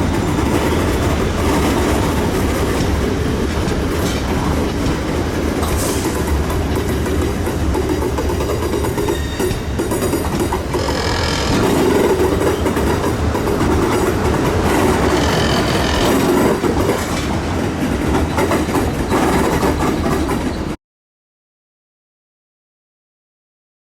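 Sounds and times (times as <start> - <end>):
train wheels clattering over rail joints: 0.0 - 20.8.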